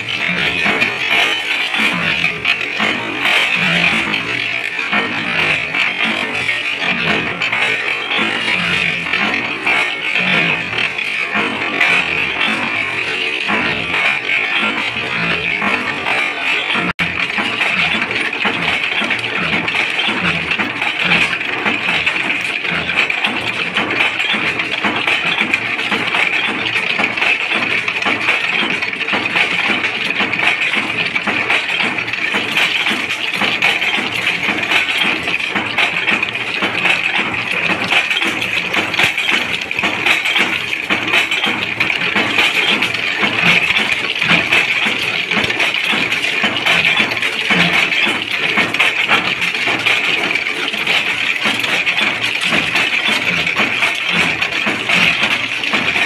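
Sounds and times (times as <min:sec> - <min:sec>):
thread rolling machine clatter: 0:00.0 - 0:56.0.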